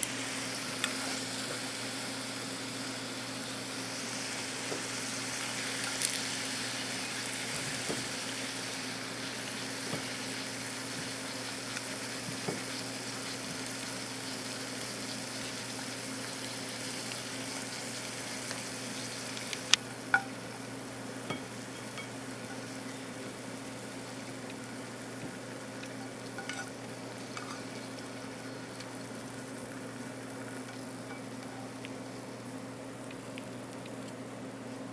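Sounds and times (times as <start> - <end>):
food sizzling in a pan: 0.0 - 33.9.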